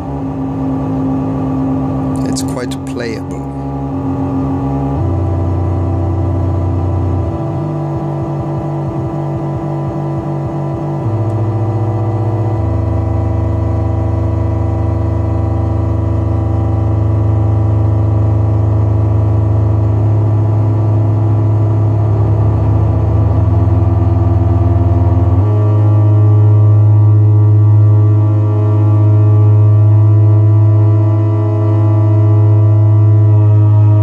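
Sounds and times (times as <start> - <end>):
bass-heavy synthesizer drone: 0.0 - 34.0.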